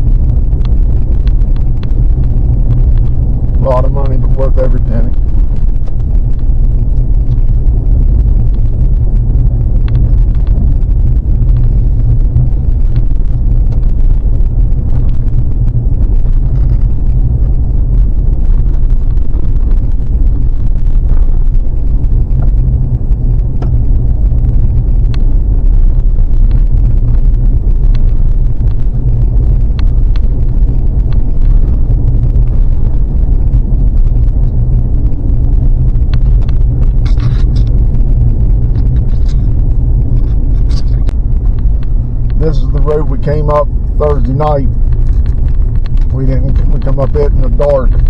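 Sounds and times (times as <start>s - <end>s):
vehicle driving rumble: 0.0s - 48.0s.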